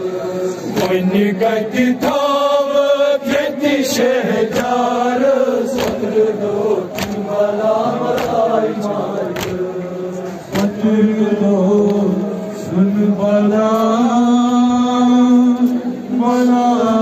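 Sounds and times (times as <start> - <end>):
man chanting over loudspeaker: 0.0 - 17.0.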